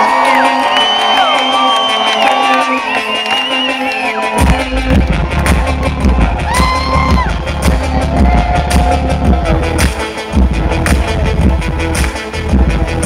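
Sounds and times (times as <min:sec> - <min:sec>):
loud live electronic music: 0:00.0 - 0:13.0.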